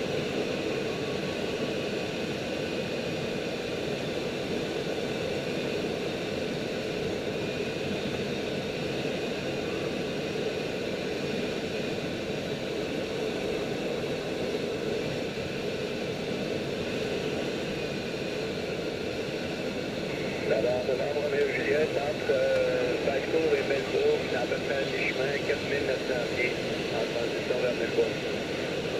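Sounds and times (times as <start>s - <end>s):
air rushing over glider cockpit: 0.0s - 28.9s.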